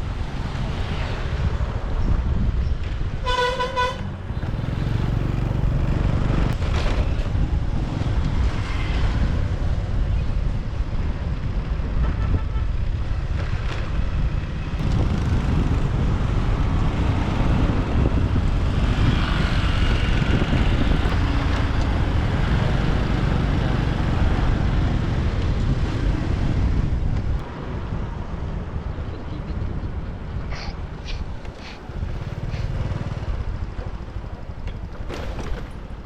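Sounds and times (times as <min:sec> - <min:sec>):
road and traffic noise: 0:00.0 - 0:36.0
wind buffeting microphone: 0:00.0 - 0:36.0.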